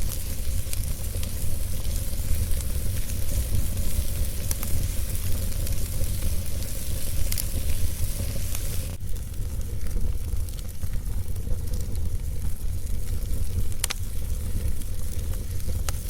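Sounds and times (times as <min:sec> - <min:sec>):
low rumble and hiss: 0:00.0 - 0:16.0
wood fire crackling: 0:00.0 - 0:16.0.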